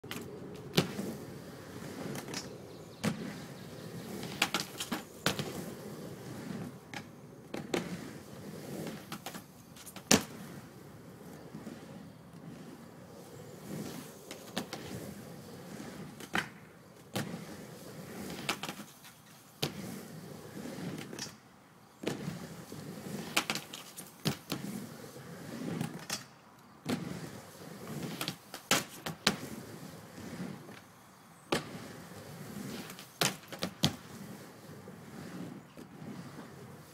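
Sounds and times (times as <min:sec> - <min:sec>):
skateboard clacking on coping: 0:00.0 - 0:21.4, 0:22.0 - 0:30.9, 0:31.5 - 0:36.9
skateboard wheels rumbling on ramp: 0:00.0 - 0:36.9.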